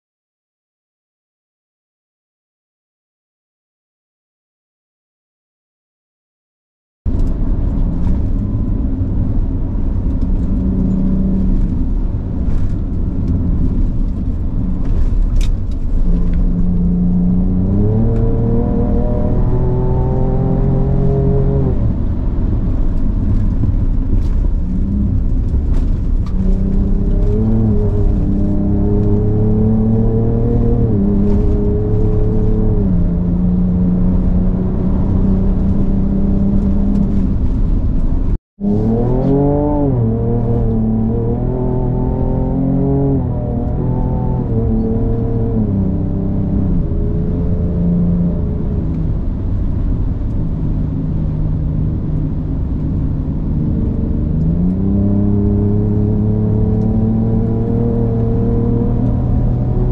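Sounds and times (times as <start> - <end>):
truck engine accelerating: 7.1 - 59.9.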